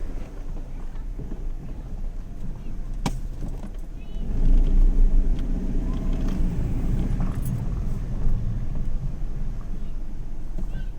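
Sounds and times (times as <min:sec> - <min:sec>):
car engine low rumble: 0:00.0 - 0:10.9.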